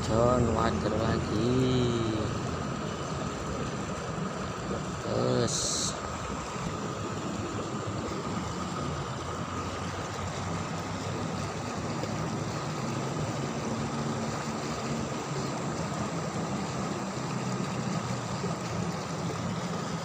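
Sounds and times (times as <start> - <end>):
flowing river water: 0.0 - 20.0
low steady hum: 0.0 - 20.0.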